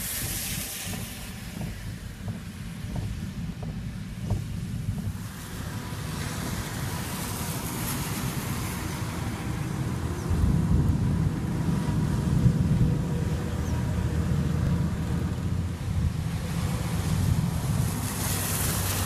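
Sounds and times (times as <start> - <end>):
rain hiss: 0.0 - 19.0
wind rumble on microphone: 0.0 - 19.0.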